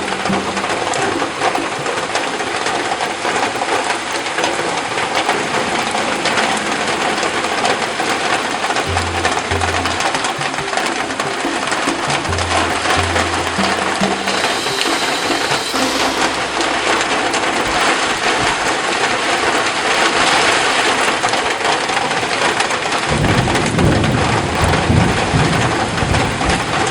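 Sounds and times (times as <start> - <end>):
heavy rain pouring: 0.0 - 26.9.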